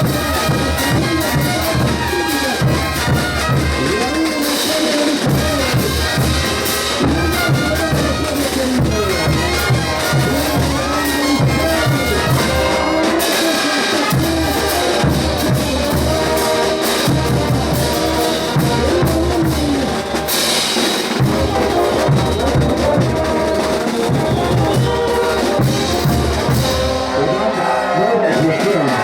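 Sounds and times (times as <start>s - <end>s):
drums and cymbals beat: 0.0s - 29.0s
trumpets and low brass melody: 0.0s - 29.0s.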